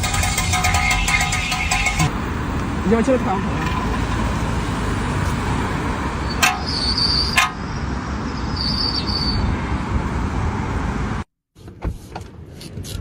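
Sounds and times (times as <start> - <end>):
vehicle and road noise: 0.0 - 13.0.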